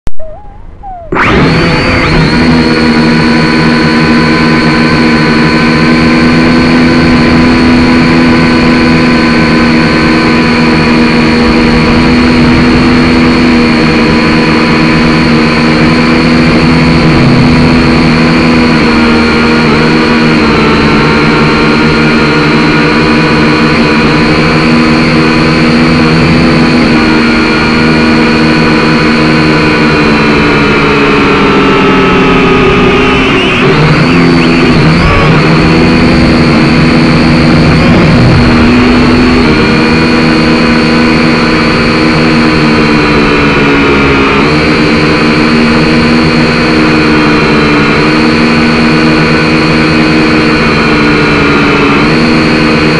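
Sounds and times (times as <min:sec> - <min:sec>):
drone propellers whining: 0:00.0 - 0:52.9.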